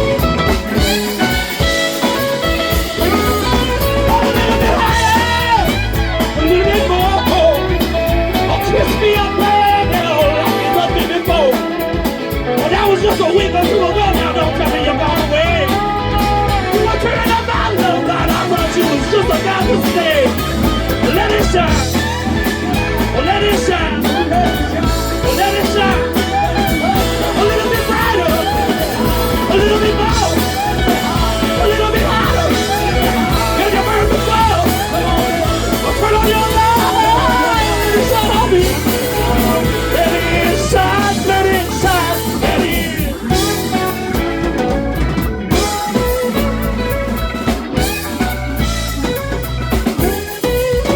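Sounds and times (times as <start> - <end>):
drum and bass groove: 0.0 - 50.9
lead guitar line bending: 0.0 - 50.9
rock band playing blues-rock jam: 0.0 - 50.9.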